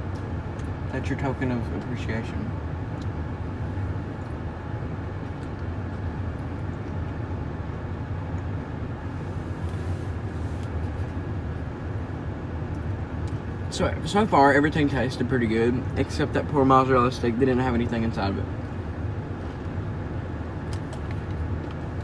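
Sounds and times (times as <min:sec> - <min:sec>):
car engine running inside cabin: 0:00.0 - 0:22.0.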